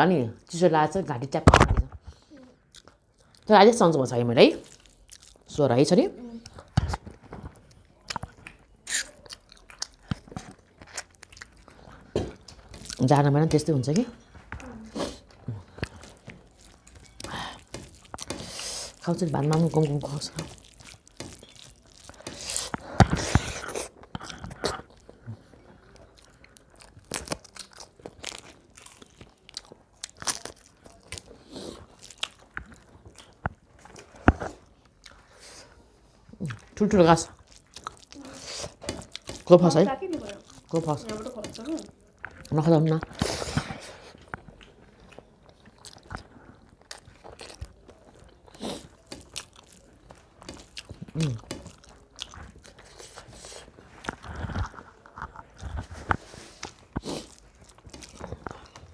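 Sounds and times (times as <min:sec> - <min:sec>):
crunching and chewing food: 0:02.0 - 0:03.5, 0:04.3 - 0:05.6, 0:06.4 - 0:58.9.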